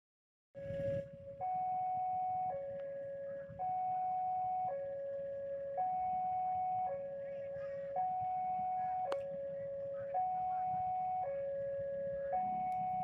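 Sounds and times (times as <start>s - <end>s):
two-tone electronic warning signal: 0.6s - 13.0s.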